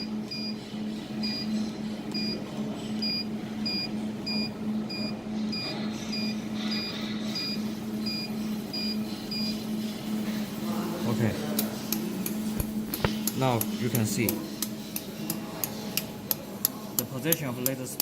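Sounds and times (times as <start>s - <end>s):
machine low hum: 0.0s - 18.0s.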